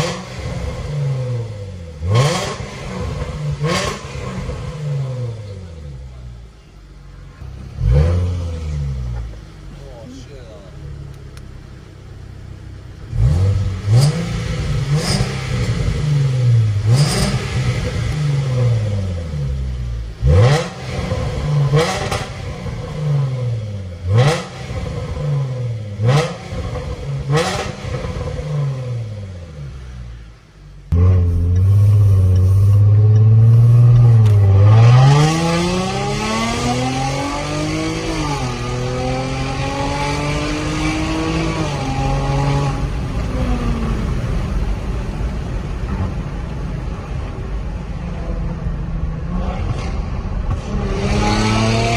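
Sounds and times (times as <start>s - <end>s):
car accelerating away: 0.0s - 6.4s, 7.3s - 10.0s, 13.0s - 30.2s, 30.8s - 51.9s
car engine idling and revving: 0.0s - 51.9s.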